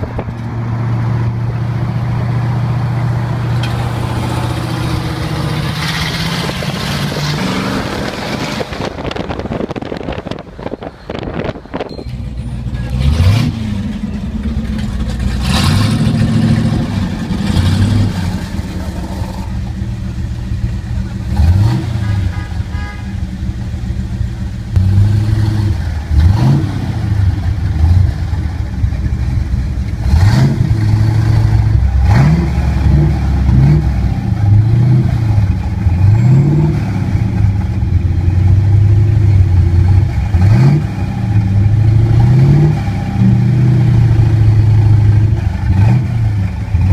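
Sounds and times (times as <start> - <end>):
engine idling and revving: 0.0 - 46.9.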